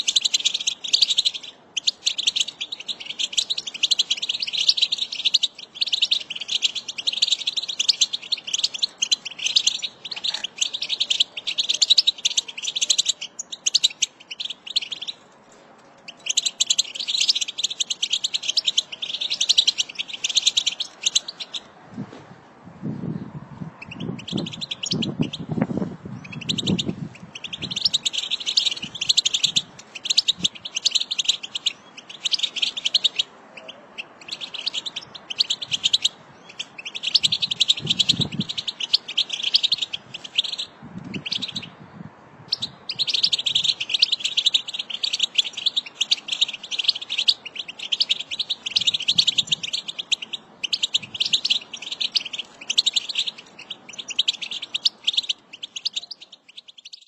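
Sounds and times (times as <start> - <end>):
finch twittering song: 0.0 - 15.2, 16.0 - 21.7, 22.9 - 57.0.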